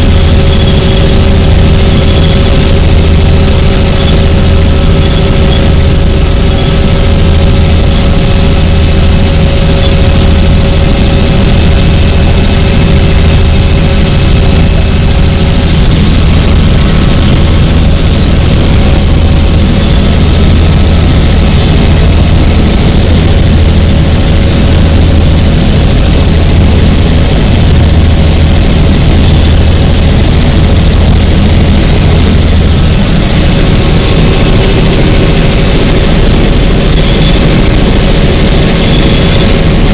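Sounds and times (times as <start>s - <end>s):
helicopter low drone: 0.0s - 39.9s
high turbine whine: 0.0s - 39.9s.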